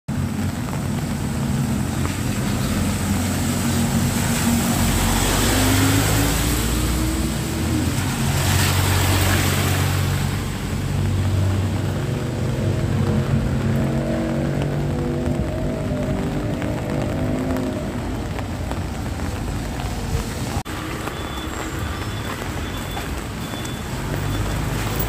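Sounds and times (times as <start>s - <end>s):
car driving past on wet road: 0.2s - 25.0s.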